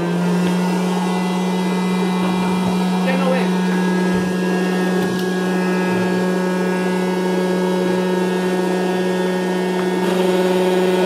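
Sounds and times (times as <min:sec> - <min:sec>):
popcorn popper fan humming: 0:00.0 - 0:11.0.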